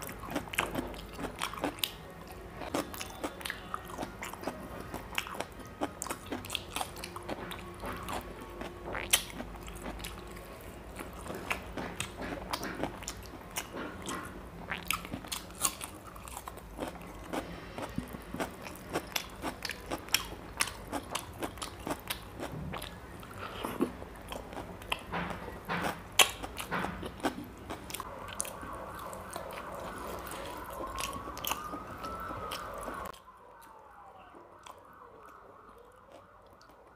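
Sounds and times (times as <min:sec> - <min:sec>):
man chewing with wet smacks: 0:00.0 - 0:36.9.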